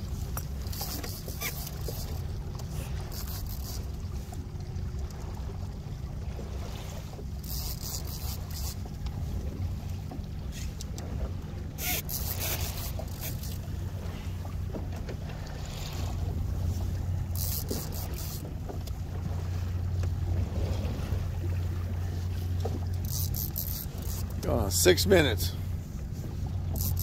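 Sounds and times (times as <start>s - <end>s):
boat motor idling: 0.0s - 27.0s.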